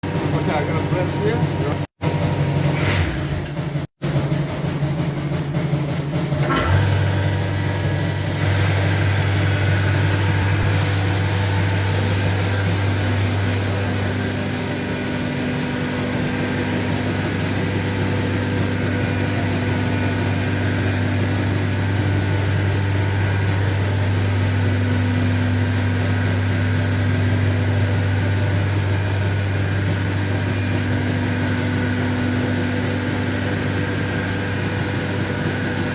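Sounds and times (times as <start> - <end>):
router machine humming: 6.4 - 35.9.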